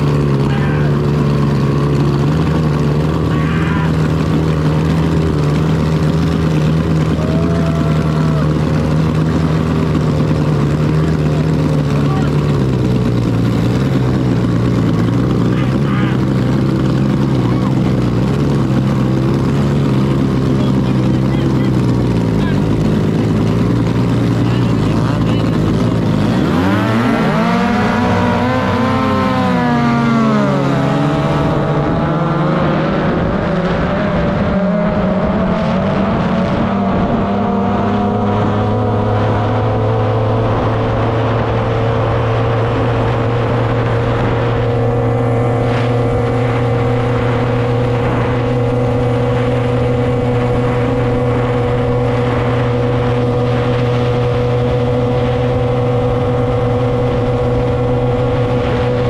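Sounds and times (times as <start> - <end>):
outboard boat engine revving: 0.0 - 59.0.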